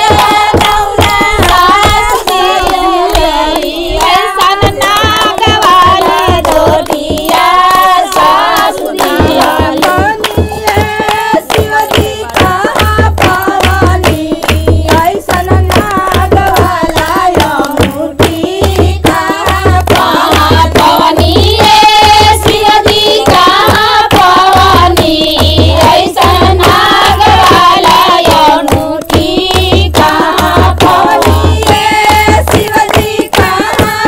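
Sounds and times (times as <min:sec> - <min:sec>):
rhythmic hand clapping: 0:00.0 - 0:34.0
women singing a devotional song: 0:00.0 - 0:34.0.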